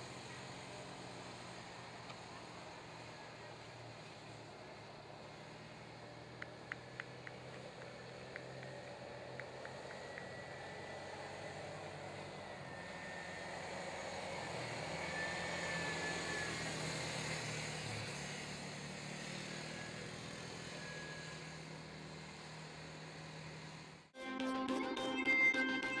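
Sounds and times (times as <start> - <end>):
small quad engines running: 0.0 - 24.2.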